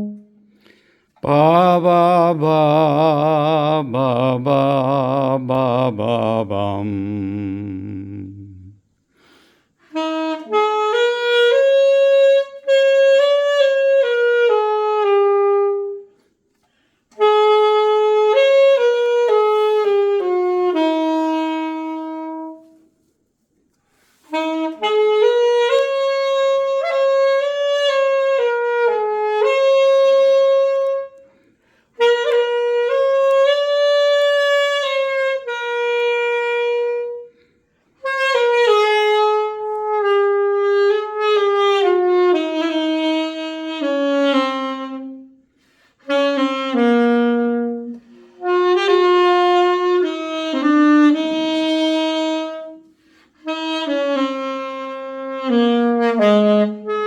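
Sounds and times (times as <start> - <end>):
saxophone melody: 0.0 - 57.0.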